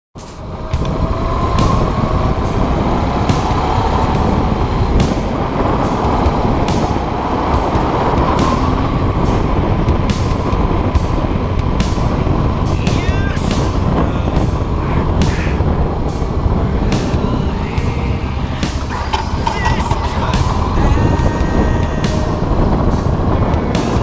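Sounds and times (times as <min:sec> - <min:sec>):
motorcycle engine running: 0:00.2 - 0:24.0
wind noise on microphone: 0:00.2 - 0:24.0.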